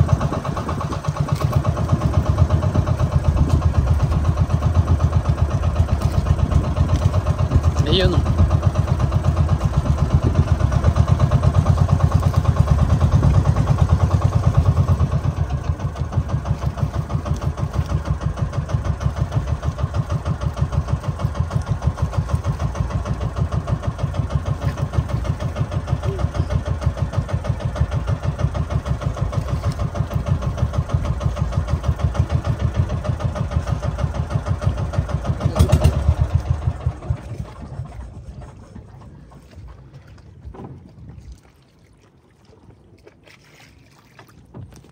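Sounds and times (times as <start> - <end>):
boat engine pulsing: 0.0 - 44.9.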